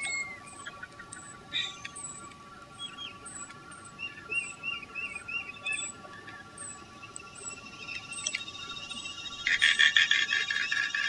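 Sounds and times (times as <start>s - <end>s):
birds chirping: 0.0s - 11.0s
faint steady tones: 0.0s - 11.0s.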